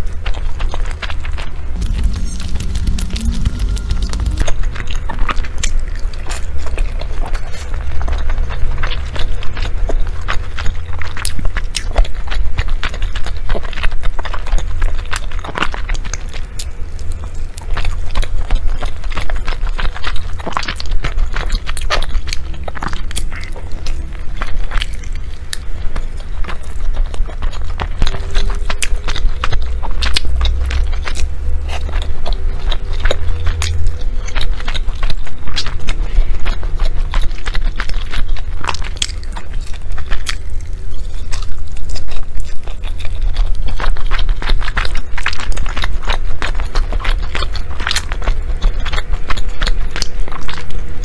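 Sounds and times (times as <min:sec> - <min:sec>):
steady low rumble: 0:00.1 - 0:49.8.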